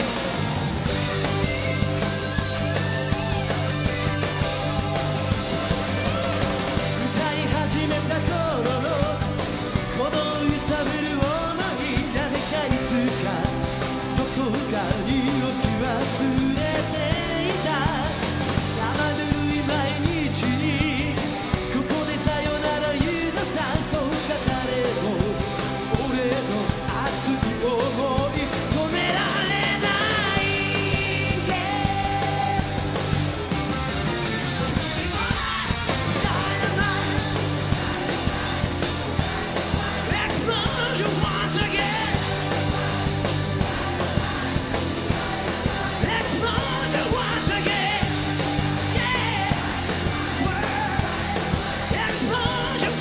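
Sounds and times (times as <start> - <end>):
electric guitar: 0.0 - 53.0
rock band playing: 0.0 - 53.0
steady drum beat: 0.0 - 53.0
man singing: 5.7 - 32.9, 35.0 - 53.0.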